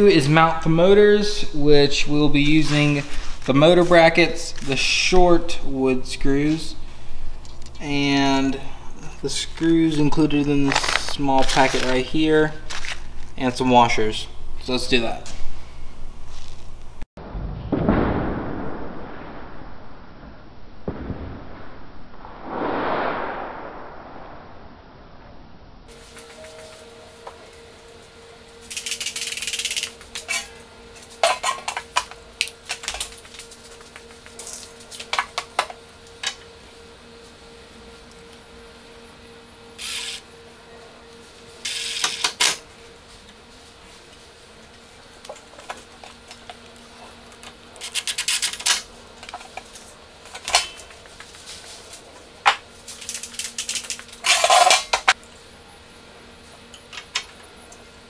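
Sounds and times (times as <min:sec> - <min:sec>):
faint steady hum: 0:00.0 - 0:17.1, 0:23.1 - 0:58.0.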